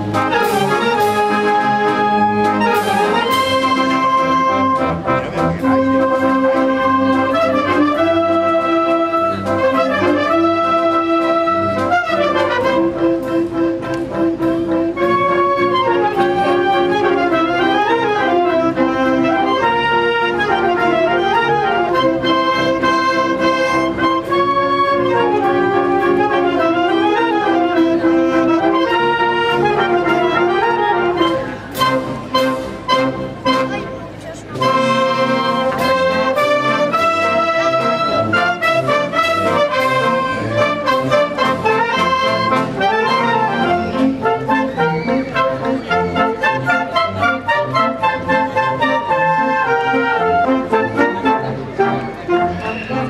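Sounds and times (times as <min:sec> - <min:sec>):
wind band playing a pasodoble: 0:00.0 - 0:53.0.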